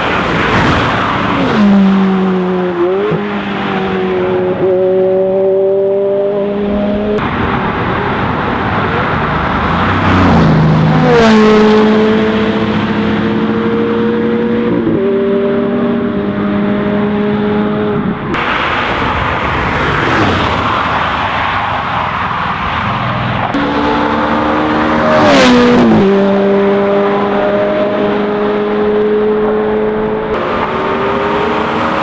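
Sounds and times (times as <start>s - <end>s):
sports cars accelerating at high revs: 0.0s - 21.6s, 23.4s - 32.0s.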